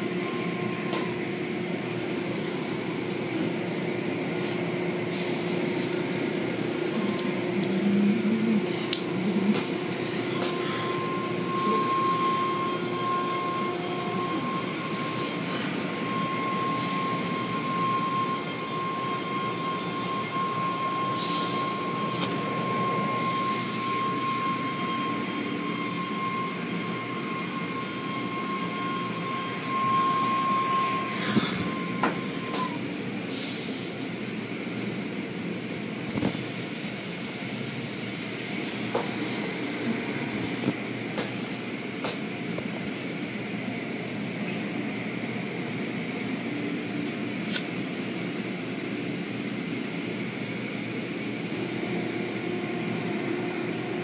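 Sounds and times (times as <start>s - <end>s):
spraying water and wash machinery: 0.0s - 54.0s
steady high whine: 0.0s - 54.0s.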